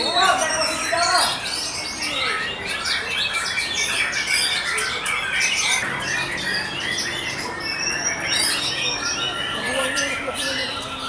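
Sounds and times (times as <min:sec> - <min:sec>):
bird singing varied notes: 0:00.0 - 0:11.0.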